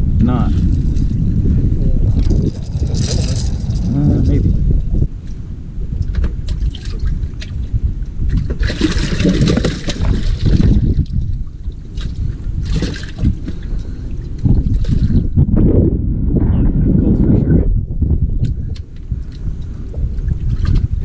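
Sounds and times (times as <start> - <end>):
water splashing and sloshing: 0.6 - 15.5, 18.4 - 21.0.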